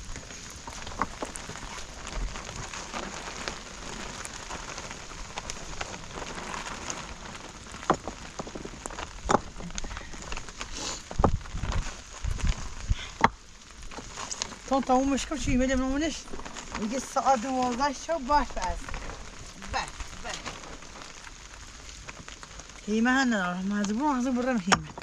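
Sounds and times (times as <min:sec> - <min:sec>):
raindrops ticking on a surface: 0:00.0 - 0:25.0
steady rain falling: 0:00.0 - 0:25.0.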